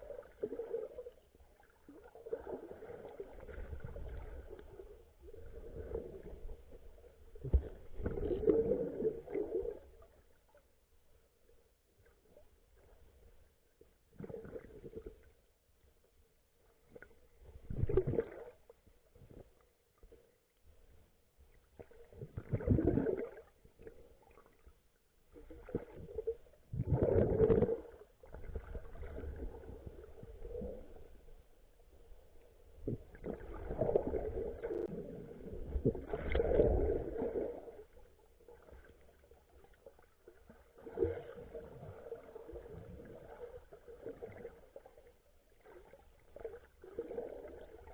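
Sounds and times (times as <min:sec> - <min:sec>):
muffled water sloshing underwater: 0:00.0 - 0:47.9.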